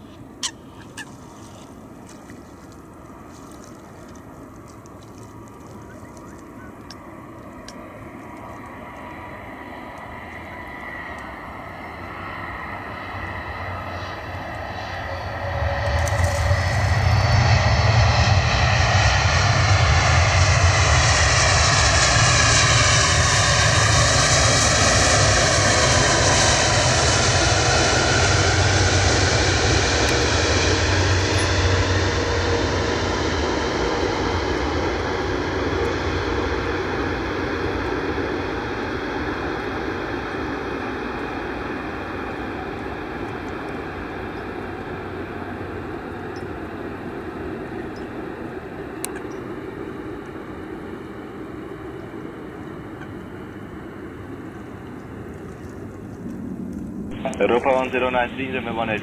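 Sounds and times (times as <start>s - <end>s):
jet landing and rolling out: 0.0s - 59.0s
jet engine whining: 4.2s - 59.0s.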